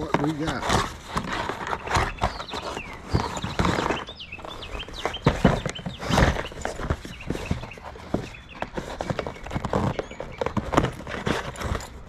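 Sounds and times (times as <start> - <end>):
cardboard box being opened: 0.0 - 12.0.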